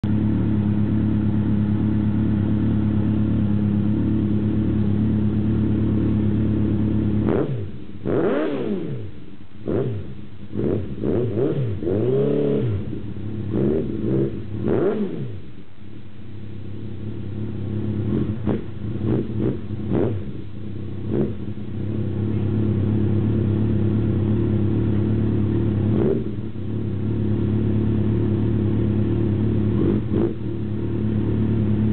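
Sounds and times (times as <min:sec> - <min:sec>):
motorcycle engine idling and revving: 0:00.0 - 0:31.9.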